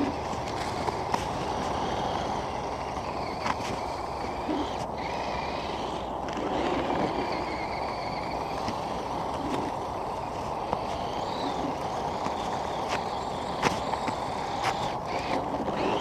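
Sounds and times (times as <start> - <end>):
electric motor and gears whining: 0.0 - 16.0
steady rushing noise: 0.0 - 16.0.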